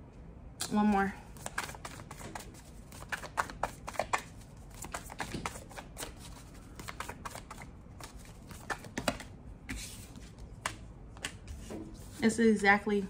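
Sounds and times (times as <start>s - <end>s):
cards being shuffled: 1.3s - 12.2s.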